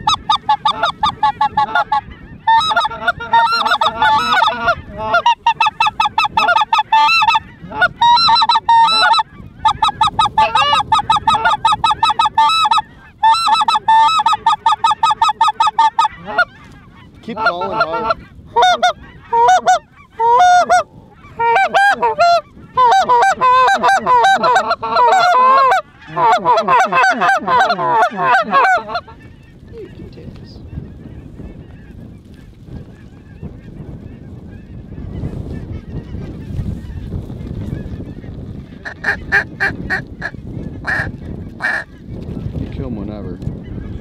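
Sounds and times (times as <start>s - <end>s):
geese honking: 0.0s - 42.5s.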